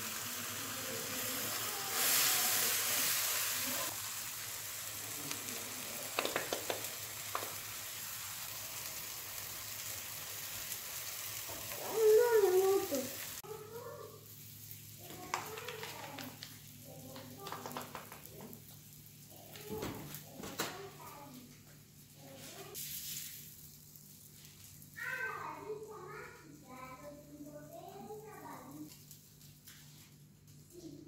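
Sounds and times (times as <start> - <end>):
burger patties sizzling on griddle: 0.0 - 30.2.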